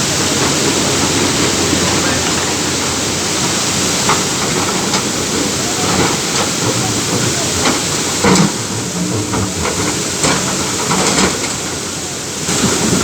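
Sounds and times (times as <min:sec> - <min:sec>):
excavator knocks and clanks: 0:00.0 - 0:13.0
excavator working in river: 0:00.0 - 0:13.0
water rushing: 0:00.0 - 0:13.0.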